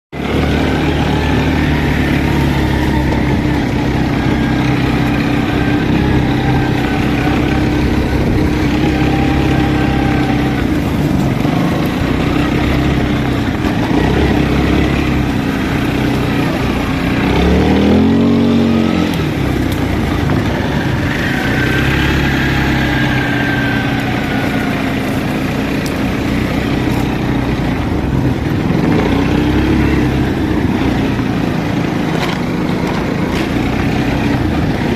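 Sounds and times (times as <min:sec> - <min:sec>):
atv engine running: 0:00.1 - 0:34.9.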